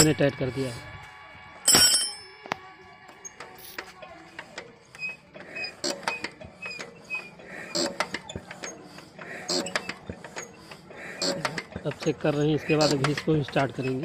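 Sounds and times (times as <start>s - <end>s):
metallic clicks and creaks: 1.7s - 14.0s.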